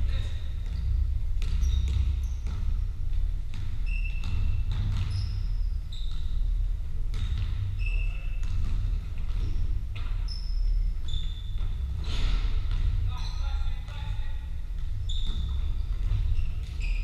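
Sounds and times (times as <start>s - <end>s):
steady low rumble: 0.0s - 16.7s
basketball bouncing: 0.2s - 17.0s.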